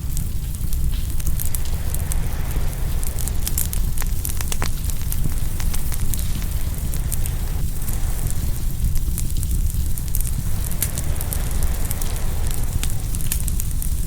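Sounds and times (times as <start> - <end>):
wood fire crackling and popping: 0.0 - 14.0
ocean waves rumbling: 0.1 - 14.0.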